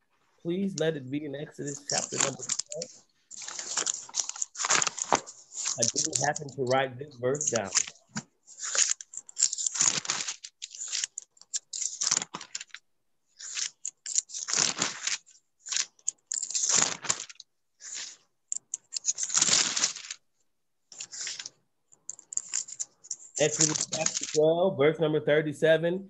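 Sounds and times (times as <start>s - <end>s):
rustling and handling noise: 1.5s - 24.4s.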